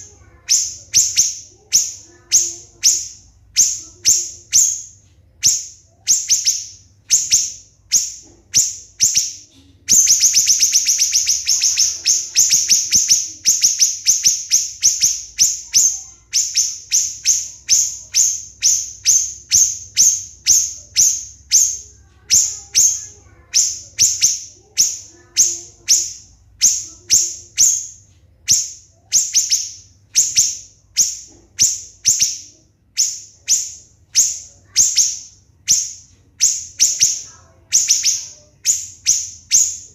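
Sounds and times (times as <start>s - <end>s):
bird high-pitched notes and trill: 0.0s - 39.9s.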